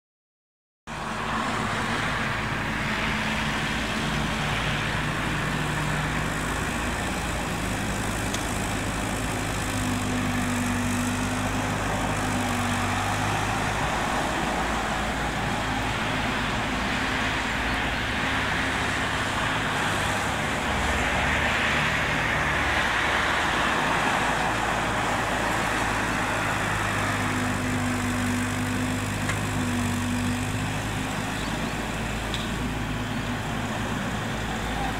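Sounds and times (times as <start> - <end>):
excavator diesel engine running: 0.9 - 34.9
road traffic hiss: 0.9 - 34.9.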